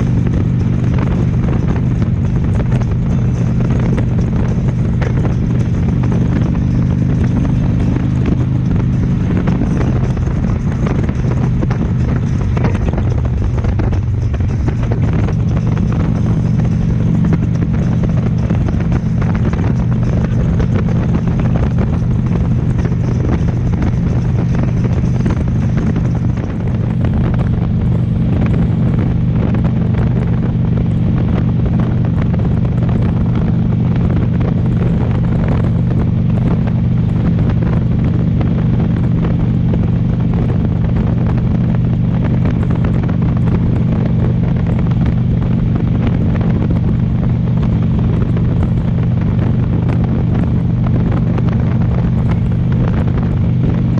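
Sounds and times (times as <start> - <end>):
motorcycle engine running: 0.0 - 53.9
wind on microphone: 0.0 - 53.9.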